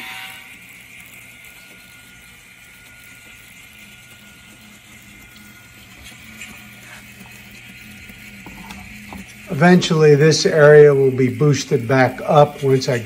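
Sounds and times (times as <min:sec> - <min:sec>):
model train humming and whirring: 0:00.0 - 0:13.0.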